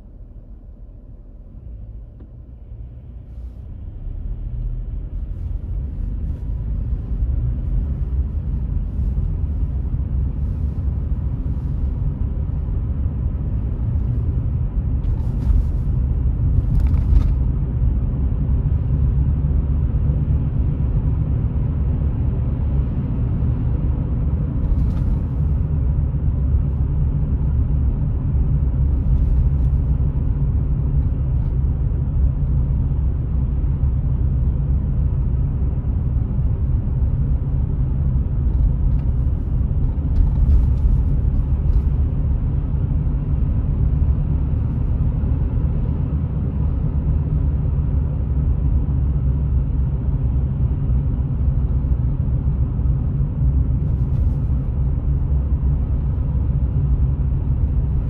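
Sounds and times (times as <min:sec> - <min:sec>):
car engine and tyre noise: 0:00.0 - 0:58.0.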